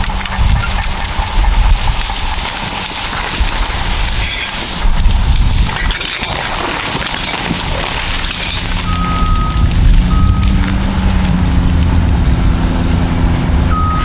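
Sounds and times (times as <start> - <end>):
brush crackling and snapping: 0.0 - 13.2
diesel engines under load: 0.0 - 14.0.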